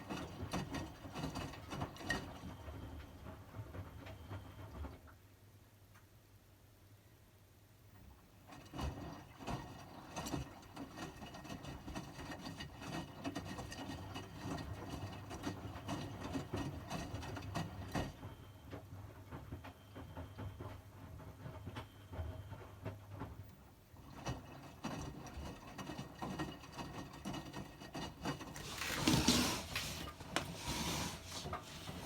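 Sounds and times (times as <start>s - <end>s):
washing machine motor hum: 0.0s - 5.0s, 8.0s - 32.0s.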